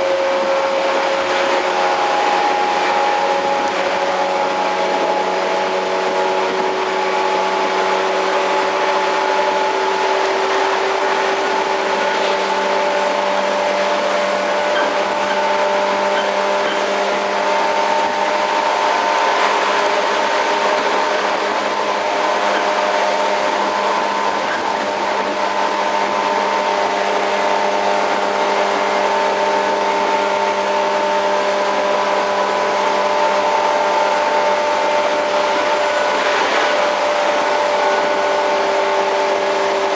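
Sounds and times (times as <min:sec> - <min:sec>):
train motor whine: 0:00.0 - 0:39.9
train wheels rumbling on rails: 0:00.0 - 0:39.9.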